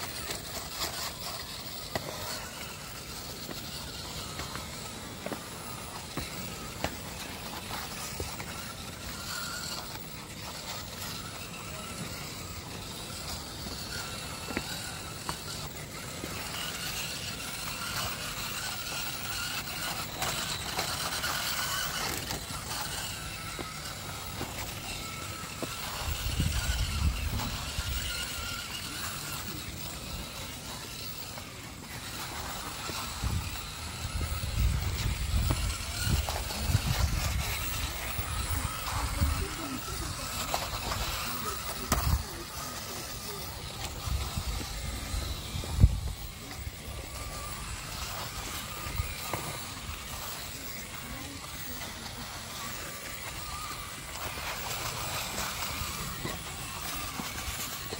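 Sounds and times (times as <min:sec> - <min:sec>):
electric motor whining: 0:00.0 - 0:57.9.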